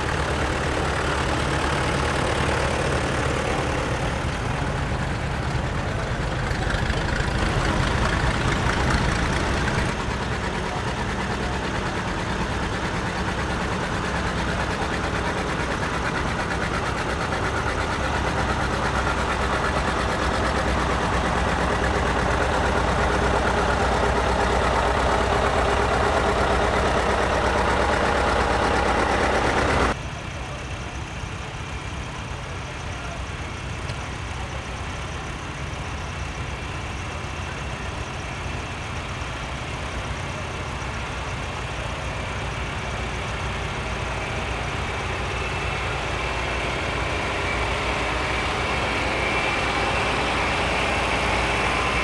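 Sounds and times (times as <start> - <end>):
tractor engines running: 0.0 - 52.0.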